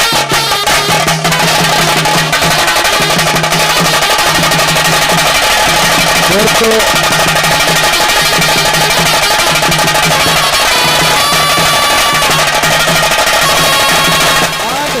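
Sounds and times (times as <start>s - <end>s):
drums beaten fast with sticks: 0.0s - 15.0s.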